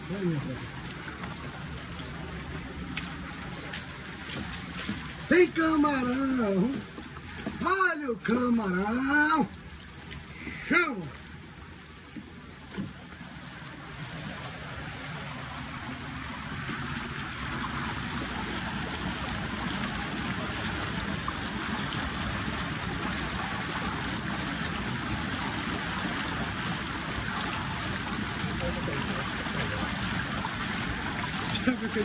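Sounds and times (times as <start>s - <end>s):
water gushing: 0.0s - 32.0s.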